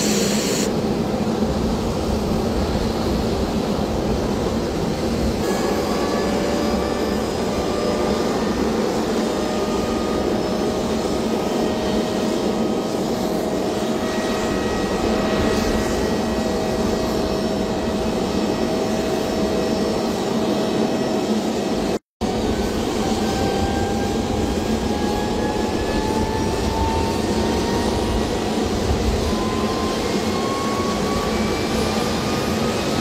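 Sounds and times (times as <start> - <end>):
aircraft engines and rotors droning: 0.0 - 33.0.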